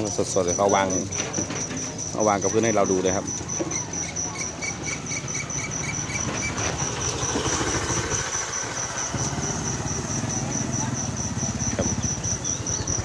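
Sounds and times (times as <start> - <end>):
engine idling hum: 0.1 - 13.0.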